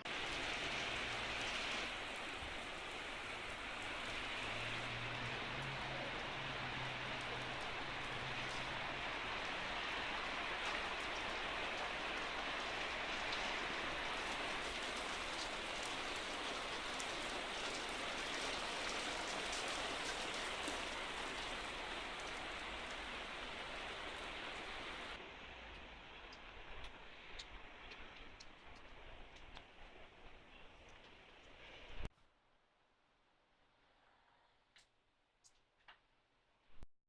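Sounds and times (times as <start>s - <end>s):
steady rain falling: 0.0s - 32.1s.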